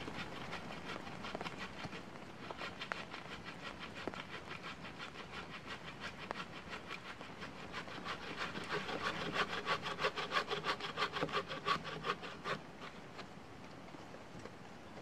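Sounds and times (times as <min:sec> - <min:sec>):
hand saw cutting log: 0:00.0 - 0:13.3.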